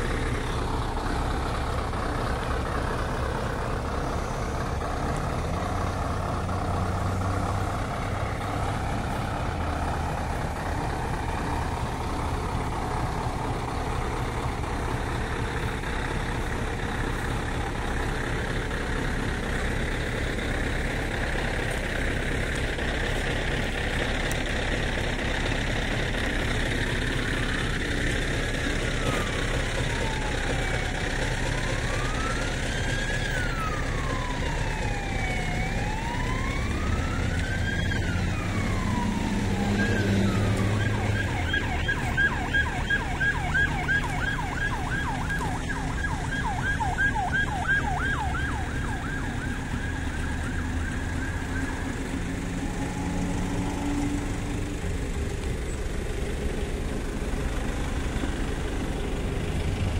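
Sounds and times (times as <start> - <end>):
emergency vehicle siren: 0.0 - 59.9
heavy engine idling: 0.0 - 59.9.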